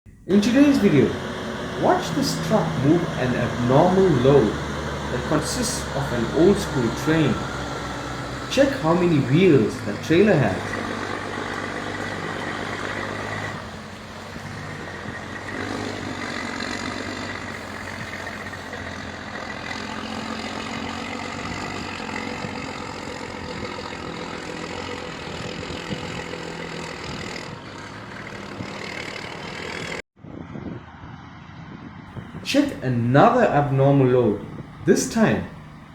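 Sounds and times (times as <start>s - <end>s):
heavy truck engine running: 0.1s - 30.0s, 32.2s - 35.9s.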